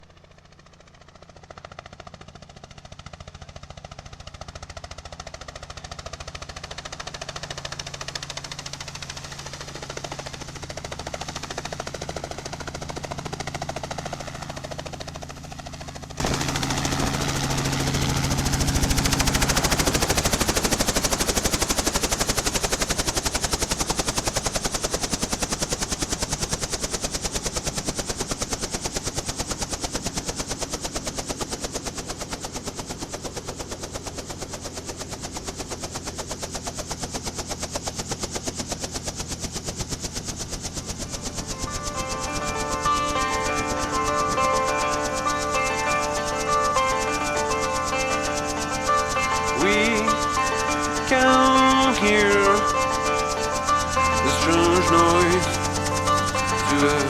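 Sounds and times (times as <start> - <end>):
helicopter engine hum: 0.0 - 57.0
rotor blades chopping: 1.6 - 57.0.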